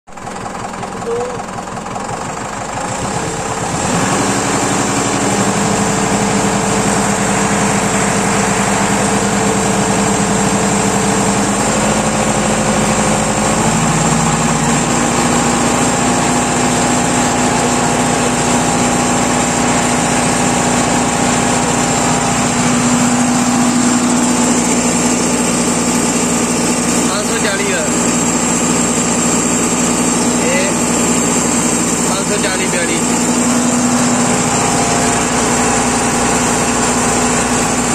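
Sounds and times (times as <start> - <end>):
tractor diesel engine revving: 0.1 - 37.9.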